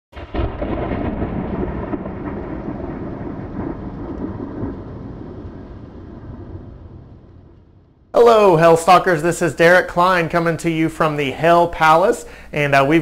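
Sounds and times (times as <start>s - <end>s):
thunder rumbling: 0.1s - 13.0s
rain hissing: 0.2s - 13.0s.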